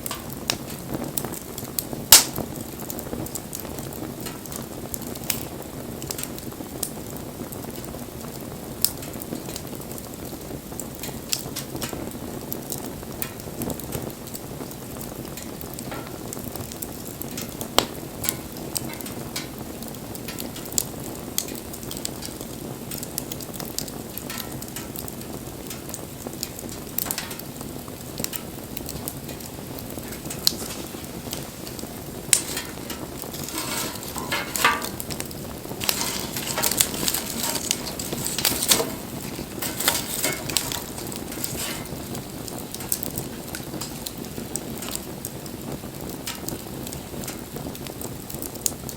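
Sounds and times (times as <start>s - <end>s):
fire crackling and popping: 0.0s - 48.9s
fire rushing flame: 0.0s - 48.9s.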